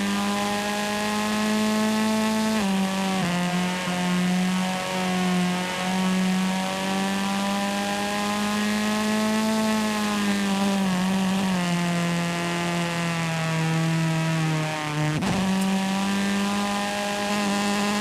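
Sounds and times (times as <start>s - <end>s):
video game car engine drone: 0.0s - 18.0s.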